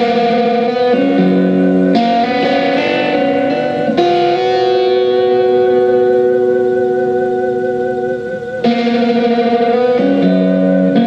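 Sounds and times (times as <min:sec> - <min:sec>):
electric guitar ringing chords: 0:00.0 - 0:11.0
held drone: 0:00.0 - 0:11.0.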